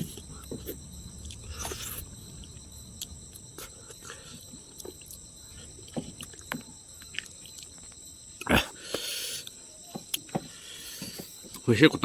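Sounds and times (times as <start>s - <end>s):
person chewing and lip-smacking: 0.0s - 11.7s
insect trill: 0.0s - 12.0s.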